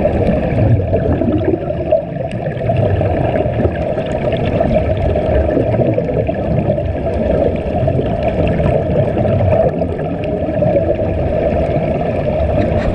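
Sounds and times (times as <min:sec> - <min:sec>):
underwater air bubbling: 0:00.0 - 0:12.9.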